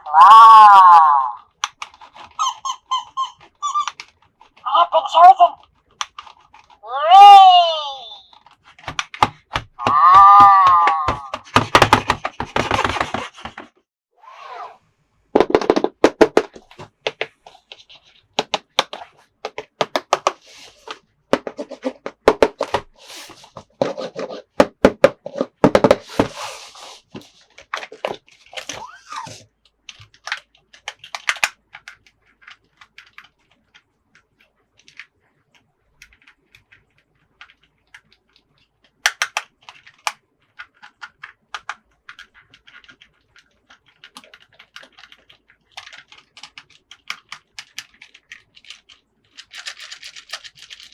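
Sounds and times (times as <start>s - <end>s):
plastic toys clicking and knocking: 0.1s - 7.4s, 8.0s - 13.8s, 15.4s - 26.4s, 27.1s - 50.9s.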